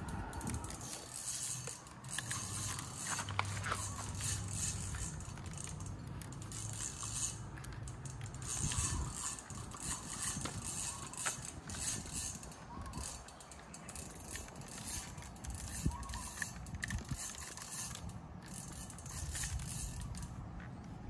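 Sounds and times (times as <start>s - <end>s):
fishing reel gears turning: 0.1s - 20.3s.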